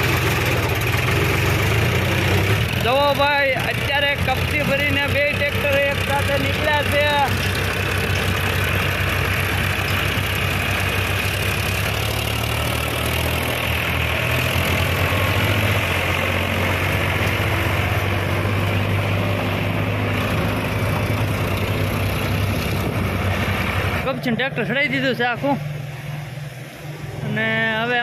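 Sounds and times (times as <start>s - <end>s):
diesel tractor engines running: 0.0s - 28.0s.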